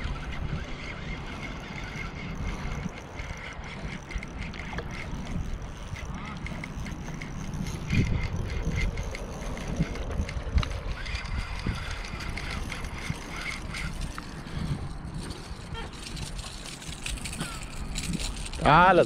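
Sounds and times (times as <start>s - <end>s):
fishing reel ticking: 0.0s - 19.0s
wind on microphone: 0.0s - 19.0s.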